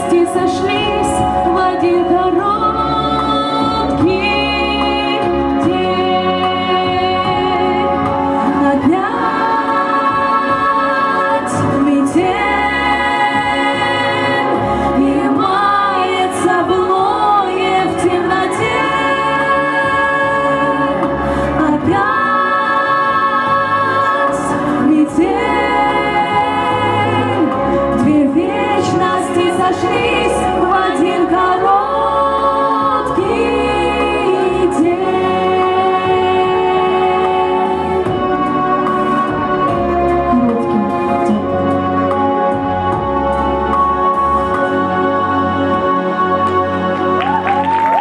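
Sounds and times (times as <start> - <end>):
backing track with bass line: 0.0 - 48.0
women singing slow melody: 0.0 - 48.0.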